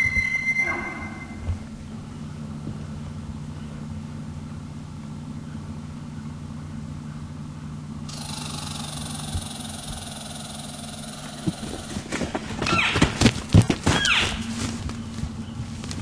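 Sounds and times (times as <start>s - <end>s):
motor engine humming: 1.4s - 16.0s.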